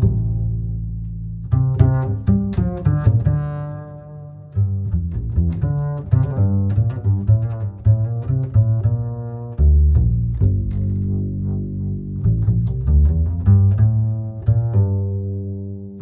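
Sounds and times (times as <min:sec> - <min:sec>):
plucked and bowed bass strings: 0:00.0 - 0:16.0.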